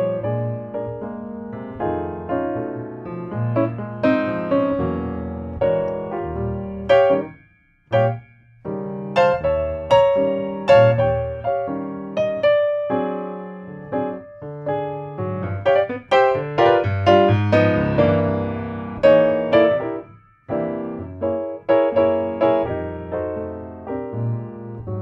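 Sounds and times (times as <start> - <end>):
solo piano melody: 0.0 - 25.0.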